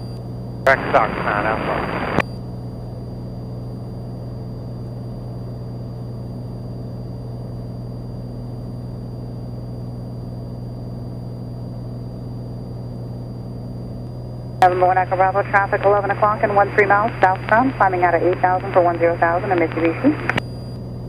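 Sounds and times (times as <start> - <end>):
propeller plane engine droning: 0.2 - 21.0.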